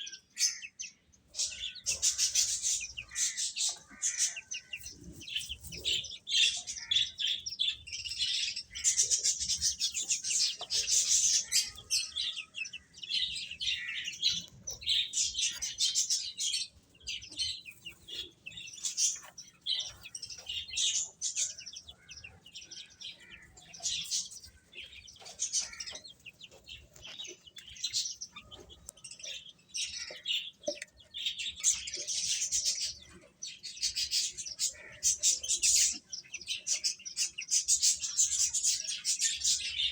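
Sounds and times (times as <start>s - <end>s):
baby chicks chirping: 0.0s - 39.9s.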